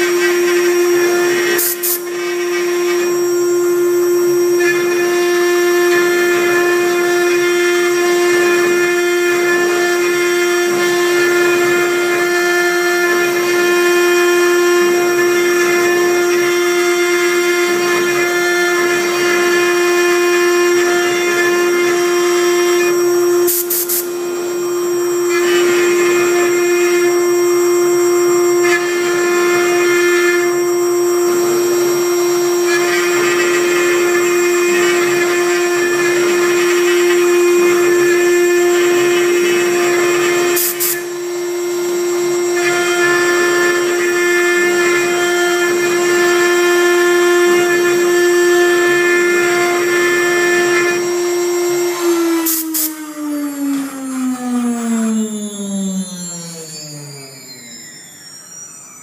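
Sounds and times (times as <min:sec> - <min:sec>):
router spindle high whine: 0:00.0 - 0:59.0.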